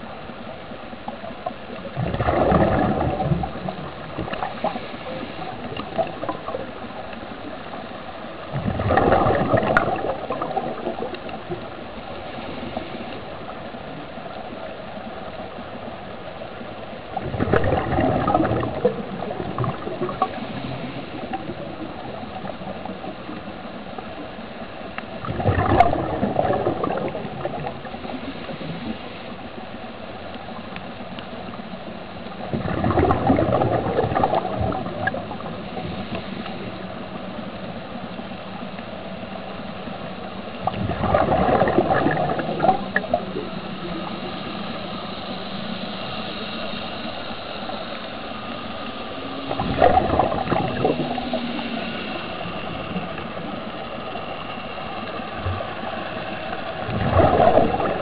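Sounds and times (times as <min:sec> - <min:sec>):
underwater air bubbling: 0:00.0 - 0:58.0.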